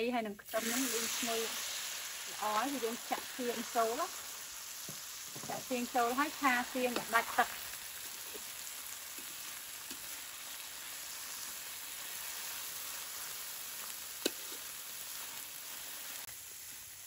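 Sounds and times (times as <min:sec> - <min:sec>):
food sizzling in a wok: 0:00.4 - 0:17.0.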